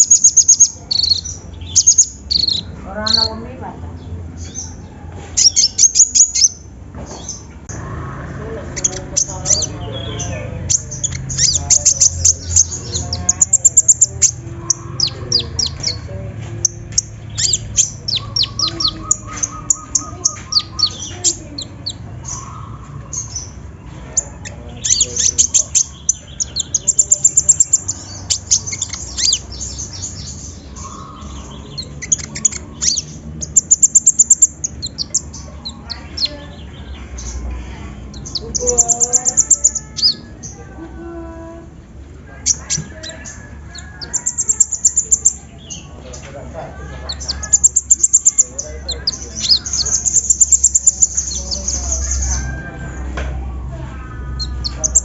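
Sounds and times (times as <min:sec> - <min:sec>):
sunbird chirping and trilling: 0:00.0 - 0:55.0.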